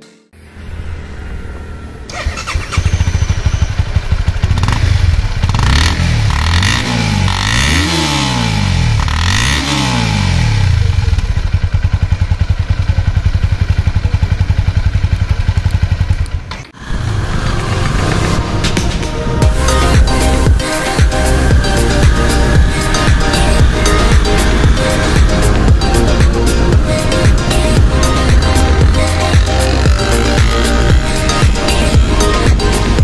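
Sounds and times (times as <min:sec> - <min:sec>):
motorcycle engine revving and idling: 0:00.4 - 0:33.0.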